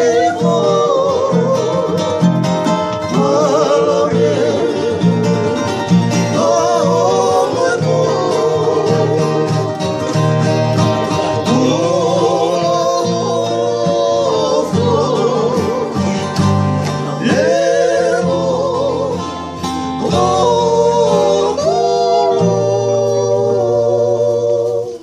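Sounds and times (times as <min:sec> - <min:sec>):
man singing with vibrato: 0:00.0 - 0:25.0
strummed acoustic guitar: 0:00.0 - 0:25.0
ukulele: 0:00.0 - 0:25.0.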